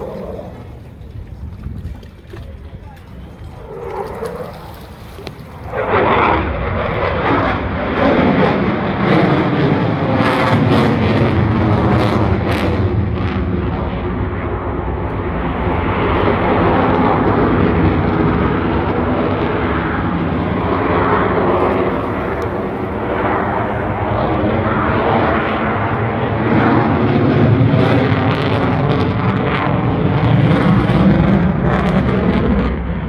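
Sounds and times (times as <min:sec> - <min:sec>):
propeller plane flying by: 0:00.0 - 0:33.0.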